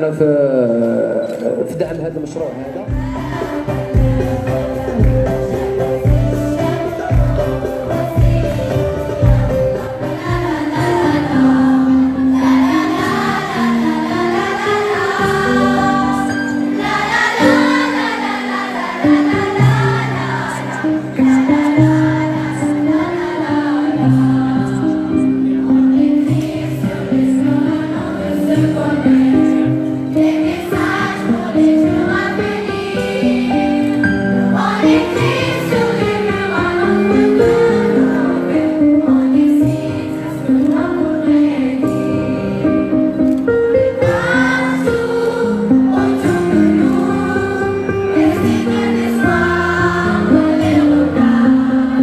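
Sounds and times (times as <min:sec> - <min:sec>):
musical accompaniment: 0:00.9 - 0:52.0
choir singing: 0:02.8 - 0:52.0.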